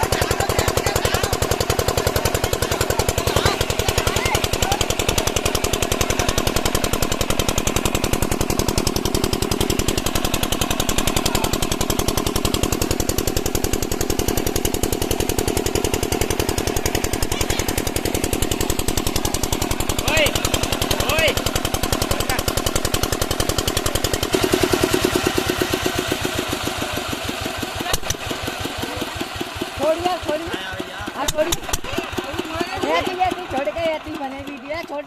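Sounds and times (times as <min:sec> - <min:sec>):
diesel pump engine knocking: 0:00.0 - 0:35.0.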